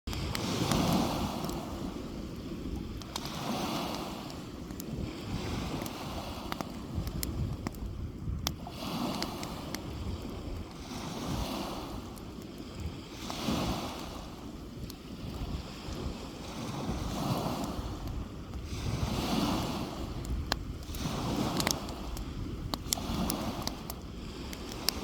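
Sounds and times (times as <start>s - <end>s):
beach fire crackling: 0.1s - 25.0s
small waves washing onto beach: 0.1s - 25.0s
wind rumble on microphone: 0.1s - 25.0s.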